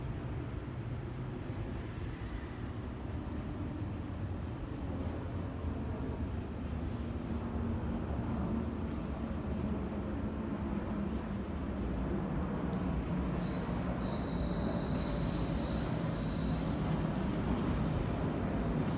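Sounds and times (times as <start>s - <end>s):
train rumbling: 0.0s - 18.9s.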